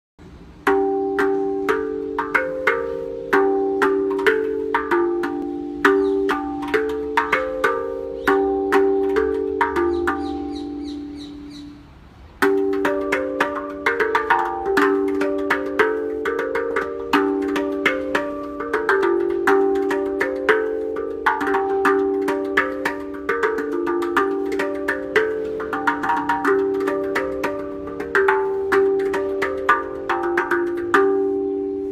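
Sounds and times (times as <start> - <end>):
steel tongue drum notes: 0.2 - 31.9.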